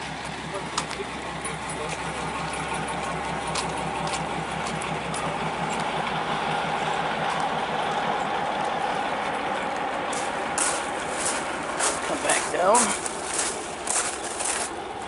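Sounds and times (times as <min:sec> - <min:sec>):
rail vehicle engine running: 0:00.0 - 0:15.0.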